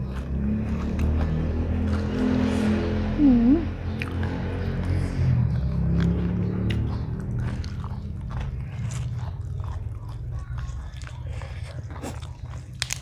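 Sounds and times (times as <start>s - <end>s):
person chewing crunchy food: 0.0s - 2.5s, 3.9s - 13.0s
low hum: 0.0s - 13.0s.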